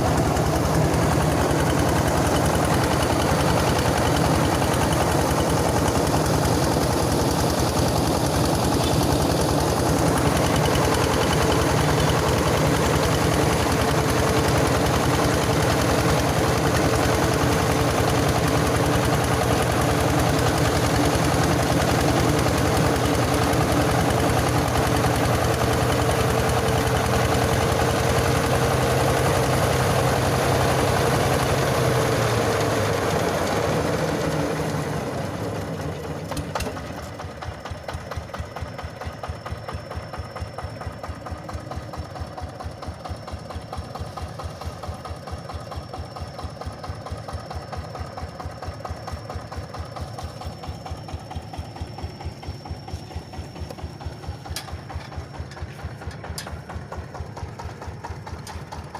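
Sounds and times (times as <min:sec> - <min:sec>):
diesel engine idling: 0:00.0 - 0:58.9
rice huller milling rush: 0:00.0 - 0:58.9.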